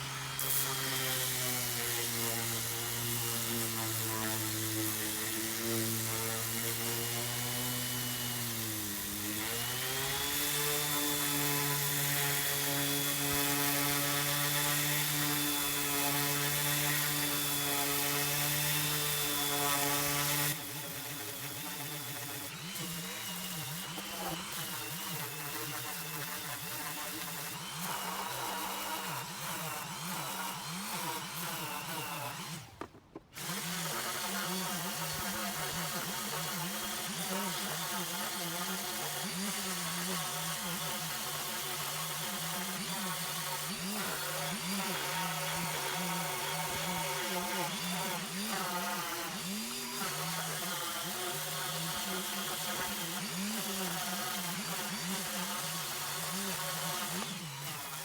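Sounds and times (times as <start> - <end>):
power tool motor cutting: 0.0 - 58.0.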